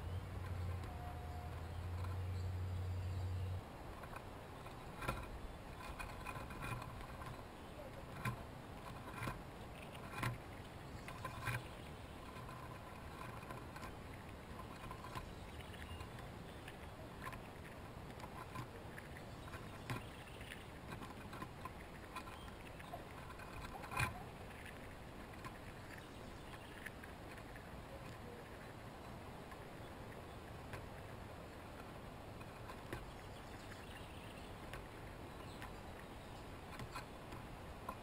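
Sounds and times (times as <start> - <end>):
faint clicks and knocks: 0.2 - 2.5, 3.4 - 38.0.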